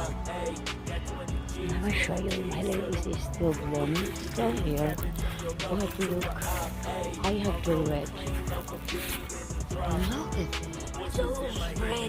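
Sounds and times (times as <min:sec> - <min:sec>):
rapping over a beat: 0:00.0 - 0:12.0.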